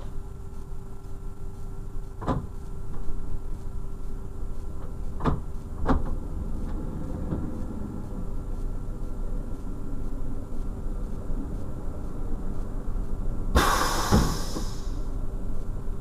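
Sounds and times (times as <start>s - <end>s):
diesel railcar engine drone: 0.0s - 16.0s.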